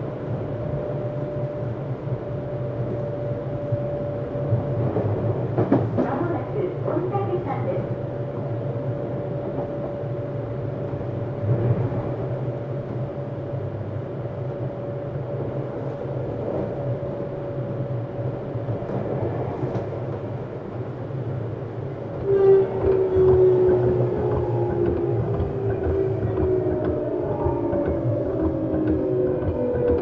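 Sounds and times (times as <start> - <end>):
train wheel and rail rumble: 0.0 - 30.0.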